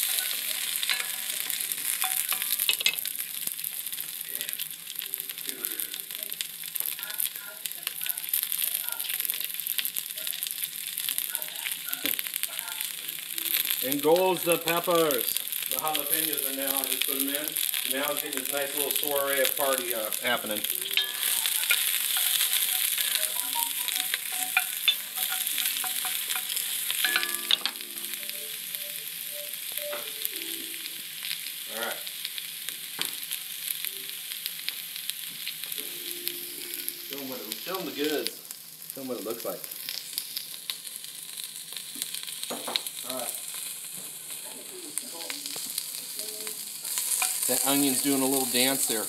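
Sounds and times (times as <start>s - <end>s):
vegetables being stirred: 0.0s - 31.9s, 41.3s - 49.0s
onions sizzling in a pot: 0.0s - 49.0s.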